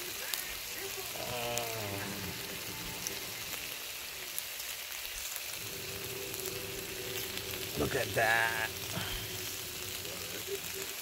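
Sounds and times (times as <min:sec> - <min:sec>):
pork sizzling on grill pan: 0:00.0 - 0:11.0.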